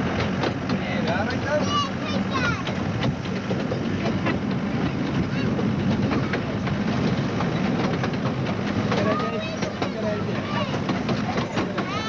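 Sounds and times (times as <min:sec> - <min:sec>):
irregular track clicks: 0:00.0 - 0:12.0
wheels rumbling on rails: 0:00.0 - 0:12.0.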